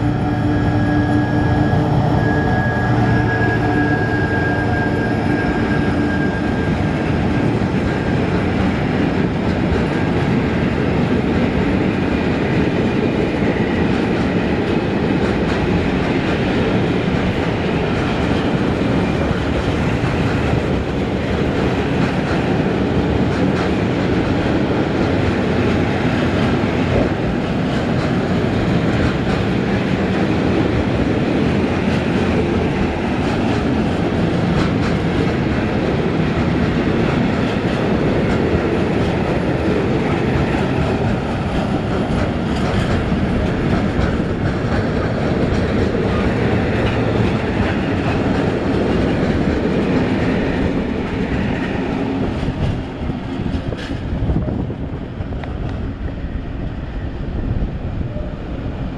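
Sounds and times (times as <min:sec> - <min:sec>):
freight train wheels clattering on rails: 0:00.0 - 0:58.9.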